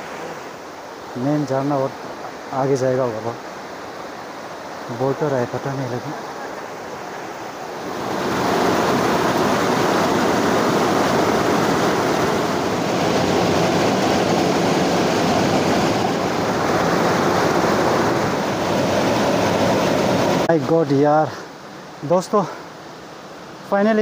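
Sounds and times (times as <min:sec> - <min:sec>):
waterfall and rapids rushing: 0:00.0 - 0:24.0.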